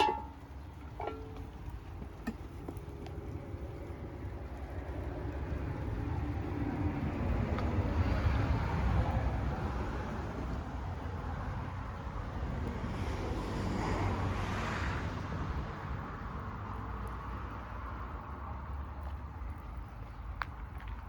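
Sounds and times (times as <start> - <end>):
vehicle passing: 0.0 - 20.4.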